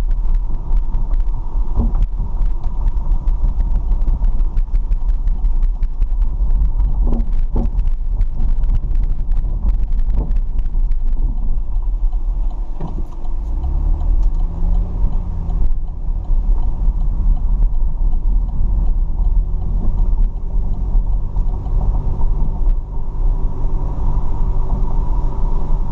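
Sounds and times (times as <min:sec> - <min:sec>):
car driving rumble: 0:00.0 - 0:25.9.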